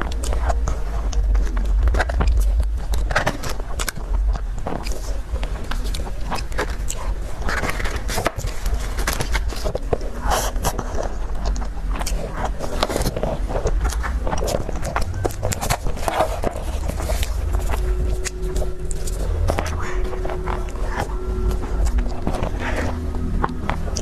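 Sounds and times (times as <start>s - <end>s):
person chewing and biting: 0.0s - 24.0s
wet clicks and crackles: 0.0s - 24.0s.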